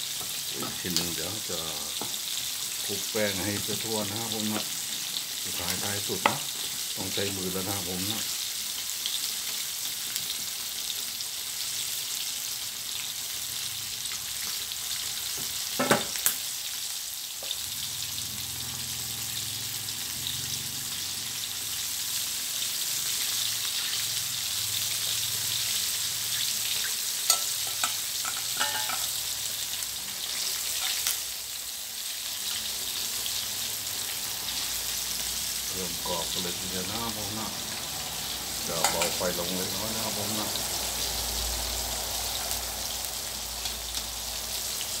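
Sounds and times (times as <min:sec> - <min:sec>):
chicken deep-frying in oil: 0:00.0 - 0:45.0.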